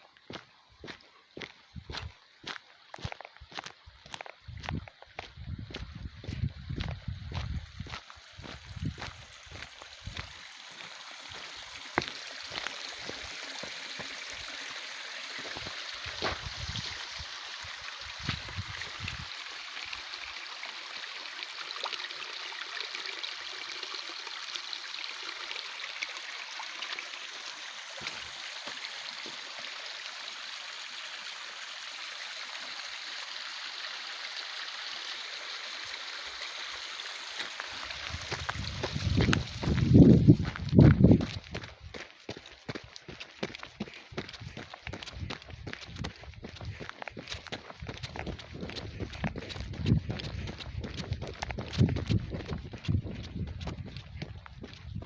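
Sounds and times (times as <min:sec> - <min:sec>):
stream water rushing: 0:00.3 - 0:54.8.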